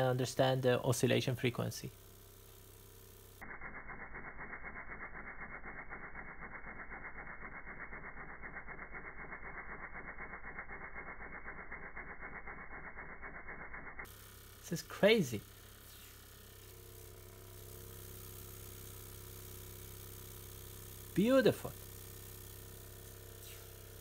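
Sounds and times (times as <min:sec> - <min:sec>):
engine pulsing buzz: 0:01.9 - 0:24.0.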